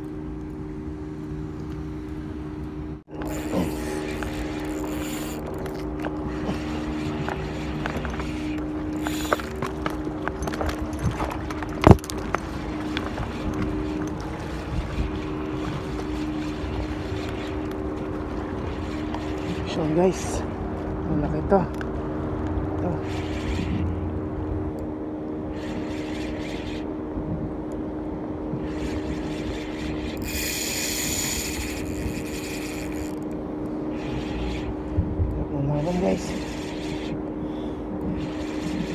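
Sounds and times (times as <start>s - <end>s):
engine drone: 0.0s - 38.9s
motor hum: 0.0s - 38.9s
water noise: 0.0s - 38.9s
wind: 0.0s - 38.9s.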